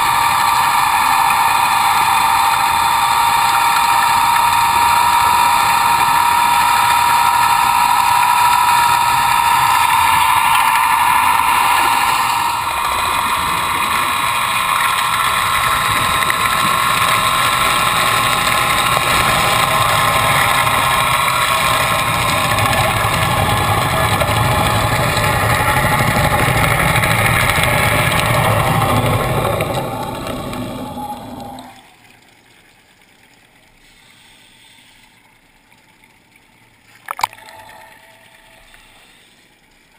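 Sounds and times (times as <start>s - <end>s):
faint water sounds: 0.0s - 39.9s
underwater rotor hum and whine: 0.0s - 39.9s.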